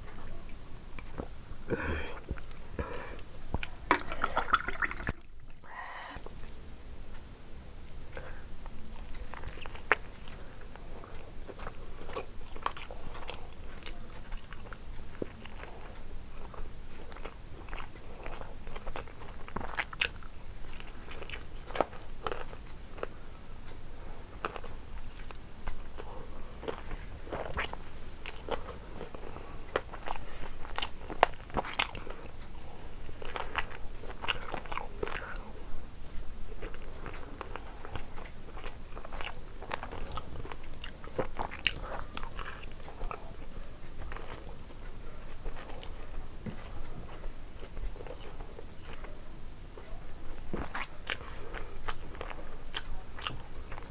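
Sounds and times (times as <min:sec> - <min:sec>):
person chewing crunchy food: 0:00.9 - 0:06.6, 0:07.9 - 0:53.9.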